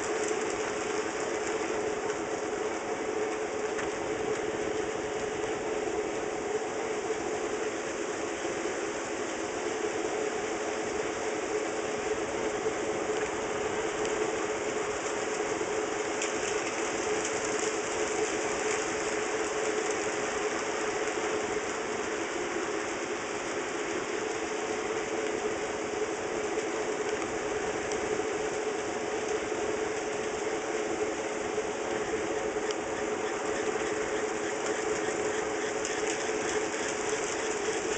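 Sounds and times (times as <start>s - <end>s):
wheels rolling on rail: 0.0s - 37.9s.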